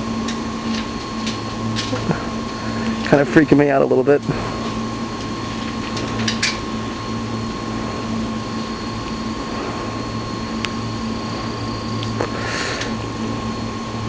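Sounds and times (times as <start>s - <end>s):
mechanical hum with high tones: 0.0s - 14.0s.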